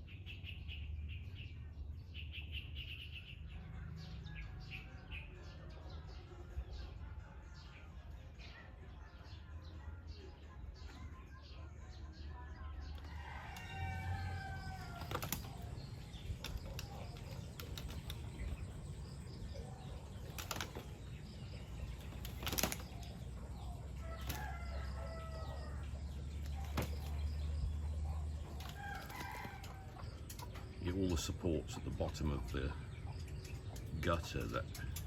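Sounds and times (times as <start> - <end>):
birds calling: 0.0 - 35.0.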